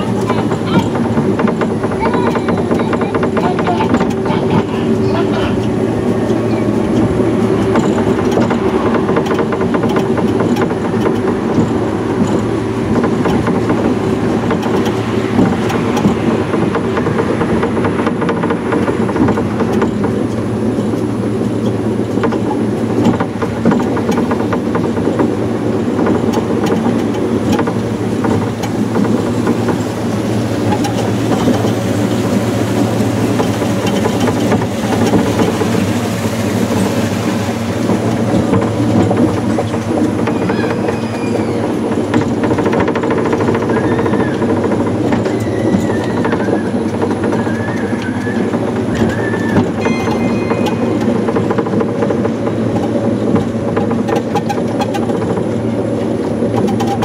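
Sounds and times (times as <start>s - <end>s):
monorail car humming and rumbling: 0.0s - 57.0s.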